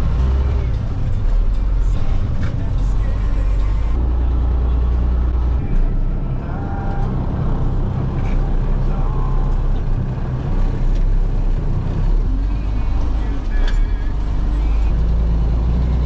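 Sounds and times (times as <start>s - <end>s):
faint voices: 0.0s - 15.2s
heavy machinery engine drone: 0.0s - 16.0s.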